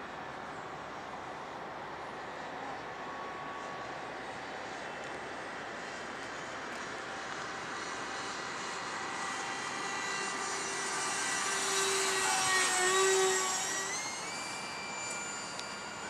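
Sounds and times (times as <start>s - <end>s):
electric ducted fan jet whine: 0.0s - 16.0s.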